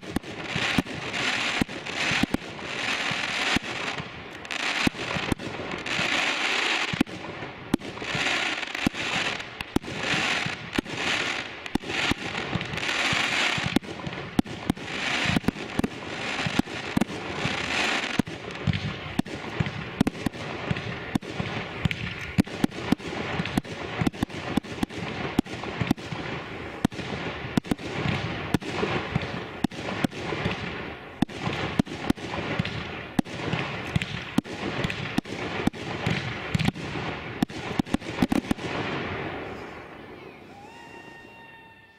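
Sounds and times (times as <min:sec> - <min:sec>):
fireworks hissing crackle: 0:00.0 - 0:41.8
fireworks bangs: 0:00.0 - 0:41.9.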